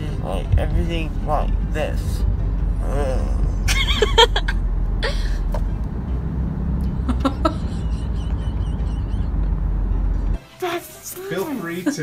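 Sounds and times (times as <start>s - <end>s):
road rumble inside car: 0.0s - 10.4s.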